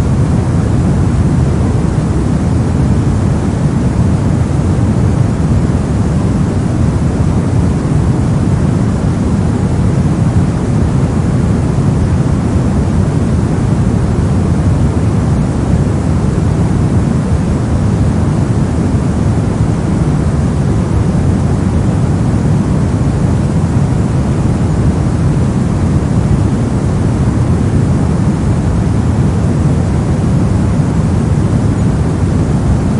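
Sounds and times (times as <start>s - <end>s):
steady low hiss-like noise: 0.0s - 32.9s.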